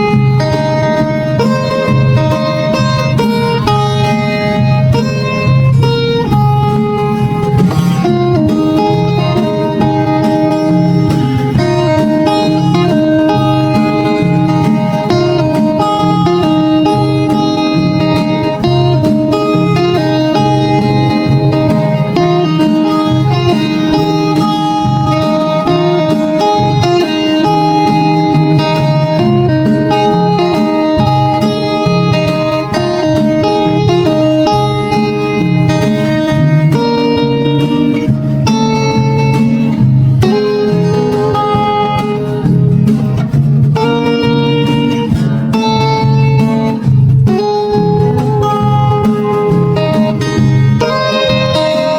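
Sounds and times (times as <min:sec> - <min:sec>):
plucked guitar: 0:00.0 - 0:51.9
steady bass line: 0:00.0 - 0:51.9.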